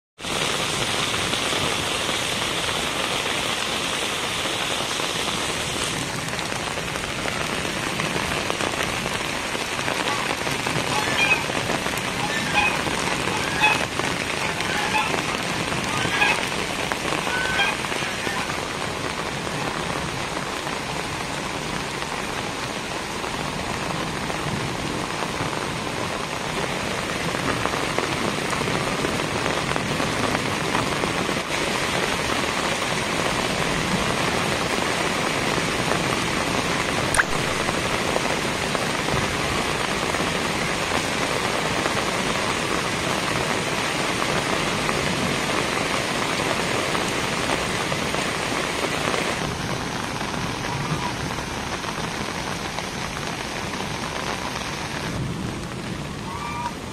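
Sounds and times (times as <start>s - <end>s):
rain falling on wet ground: 0.2s - 56.9s.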